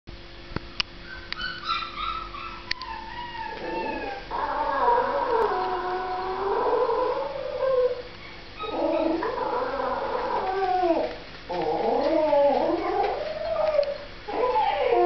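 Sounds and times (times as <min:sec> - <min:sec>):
dog howling and whining: 0:01.1 - 0:15.0.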